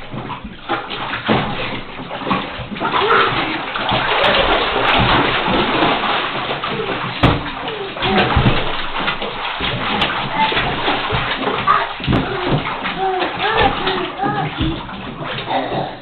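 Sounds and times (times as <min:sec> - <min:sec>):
water splashing in a bathtub: 0:00.0 - 0:16.0.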